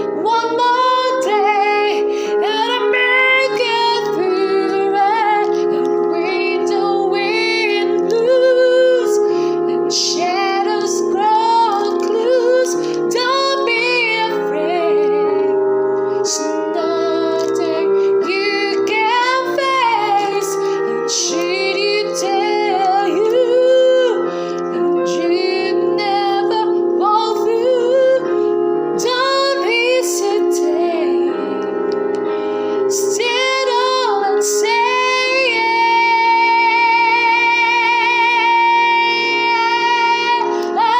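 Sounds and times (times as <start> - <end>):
woman singing: 0.0 - 32.2, 32.8 - 40.9
sustained keyboard chords: 0.0 - 40.9.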